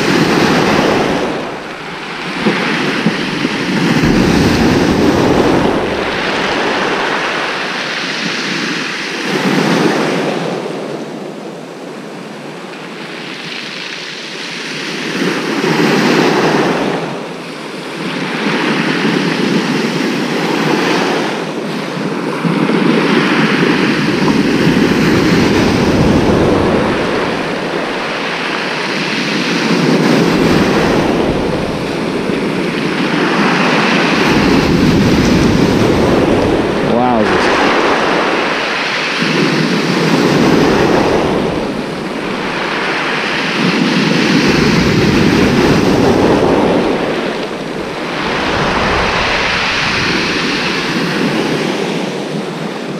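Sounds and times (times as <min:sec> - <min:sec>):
waves breaking on shingle beach: 0:00.0 - 0:11.0, 0:12.8 - 0:52.9.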